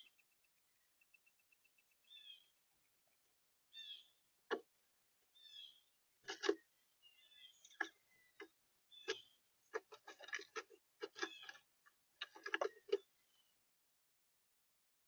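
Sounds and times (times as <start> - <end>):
birds pecking on a feeder: 0.0 - 13.7.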